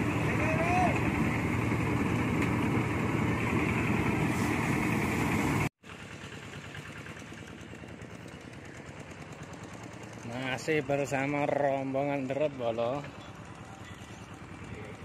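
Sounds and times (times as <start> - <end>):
quieter engine running: 0.0 - 15.0
rice thresher running: 0.0 - 15.0.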